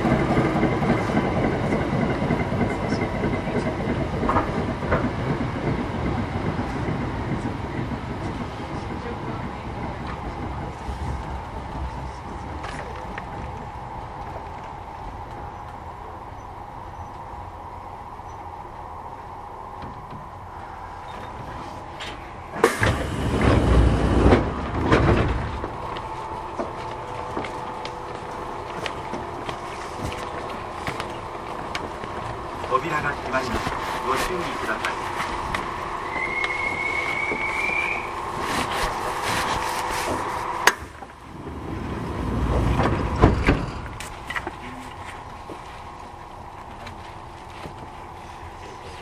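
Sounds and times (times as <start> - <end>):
loud rumbling and rattling: 0.0 - 49.0
train electrical hum: 0.0 - 49.0.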